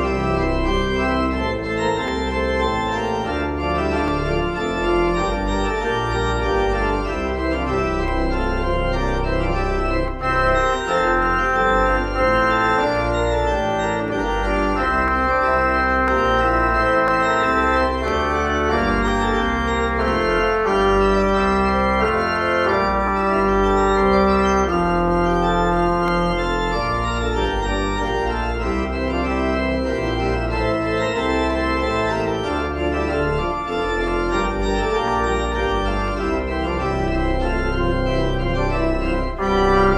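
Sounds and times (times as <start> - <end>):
organ playing sustained chords: 0.0 - 39.9.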